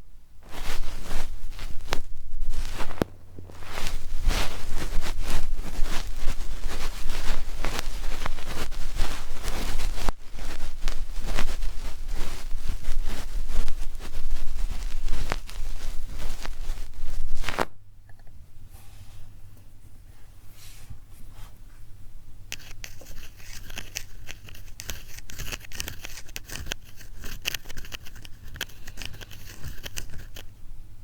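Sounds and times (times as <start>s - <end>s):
ear pick scratching microphone: 0.0s - 17.7s, 22.6s - 30.4s
faint low hum: 0.0s - 31.0s.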